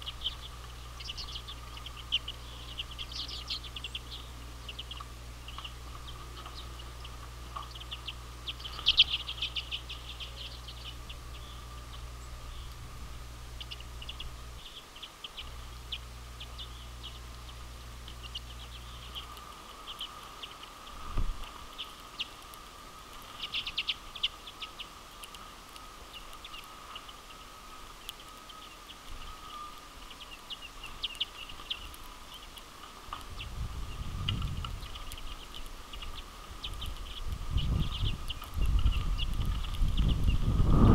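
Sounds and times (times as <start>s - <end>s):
birds chipping and twittering: 0.0s - 40.9s
faint background hum: 0.0s - 40.9s.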